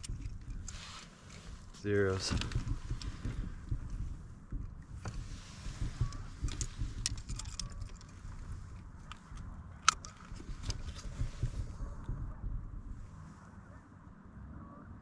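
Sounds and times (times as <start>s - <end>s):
handling clicks and taps: 0.0s - 12.2s
wind rumble on microphone: 0.0s - 15.0s.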